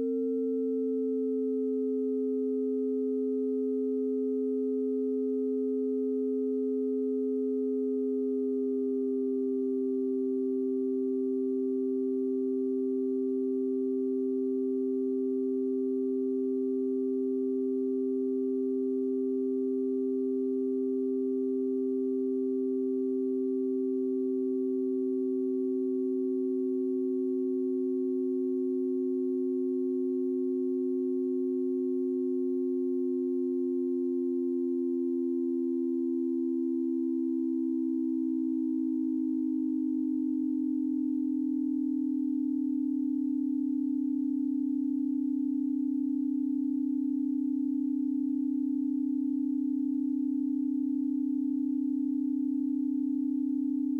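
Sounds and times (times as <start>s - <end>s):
sliding sine tones: 0.0s - 53.9s
steady higher sine tone: 0.0s - 53.9s
steady low sine tone: 0.0s - 53.9s.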